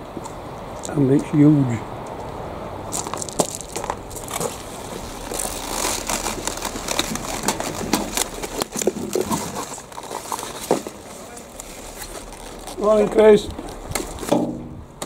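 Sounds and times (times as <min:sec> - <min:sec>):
leaves crackling and rustling: 0:00.3 - 0:14.5.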